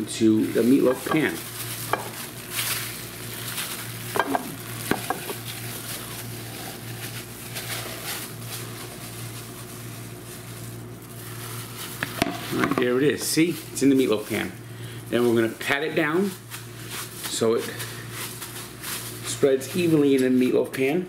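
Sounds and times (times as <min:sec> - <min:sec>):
gloved hands scraping meat mixture: 0:00.0 - 0:20.6
steady low hum: 0:00.0 - 0:21.0.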